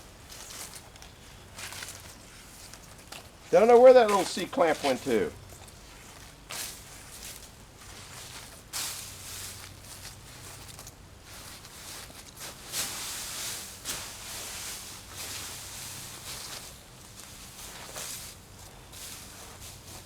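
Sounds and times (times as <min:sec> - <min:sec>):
footsteps through dry grass: 0:00.1 - 0:20.0.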